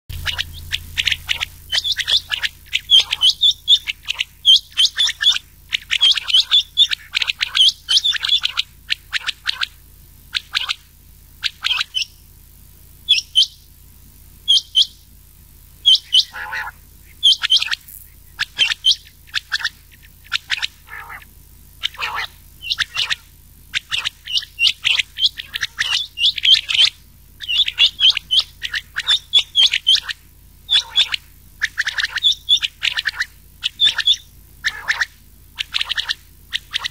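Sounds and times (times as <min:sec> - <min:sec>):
quail calls: 0:00.1 - 0:12.2, 0:13.1 - 0:13.6, 0:14.5 - 0:15.0, 0:15.8 - 0:36.9
faint low hum: 0:00.1 - 0:36.9.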